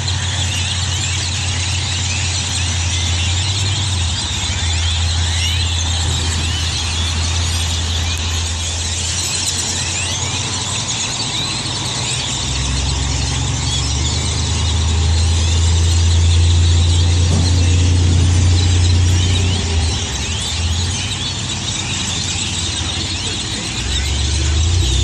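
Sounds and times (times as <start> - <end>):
flock of birds chattering: 0.0 - 25.0
low engine hum: 0.0 - 25.0.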